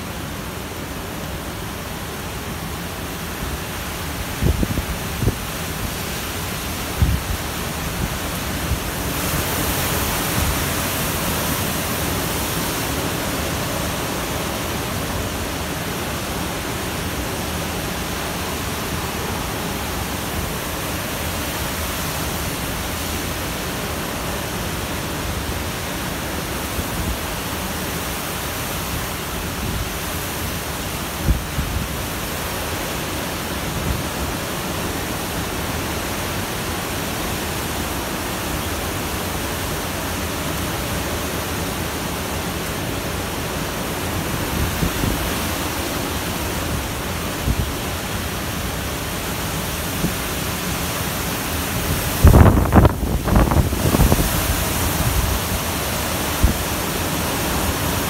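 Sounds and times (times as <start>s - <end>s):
wind and heavy rain roaring: 0.0s - 58.0s.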